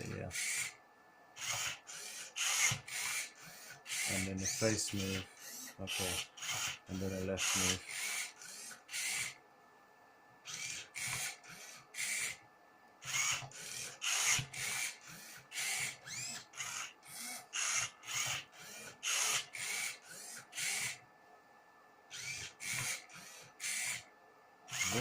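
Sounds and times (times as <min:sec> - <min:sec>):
robot motors whirring: 0:00.0 - 0:00.8, 0:01.4 - 0:09.4, 0:10.5 - 0:12.4, 0:13.0 - 0:21.0, 0:22.1 - 0:24.1, 0:24.7 - 0:25.0.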